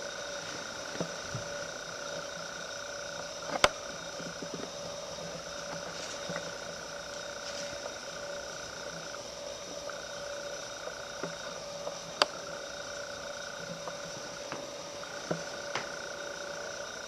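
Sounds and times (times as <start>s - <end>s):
electrical hum with whine: 0.0s - 17.0s
high whine: 0.0s - 17.0s.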